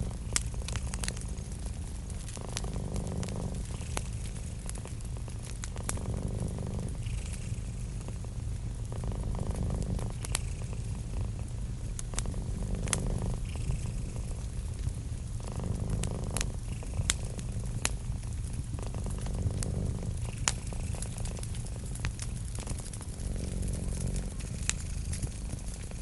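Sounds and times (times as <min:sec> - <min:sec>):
cat purring: 0:00.0 - 0:26.0
wood fire popping and crackling: 0:00.0 - 0:26.0.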